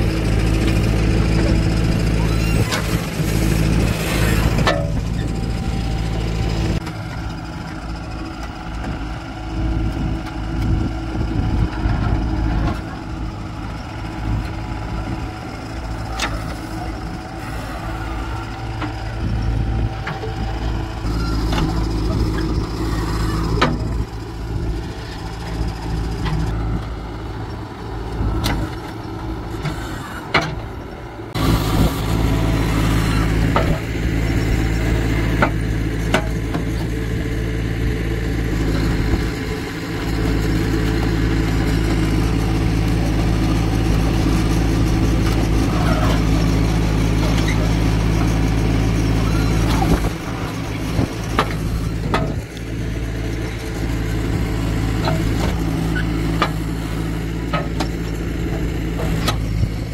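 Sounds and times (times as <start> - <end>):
diesel engines droning: 0.0 - 59.9.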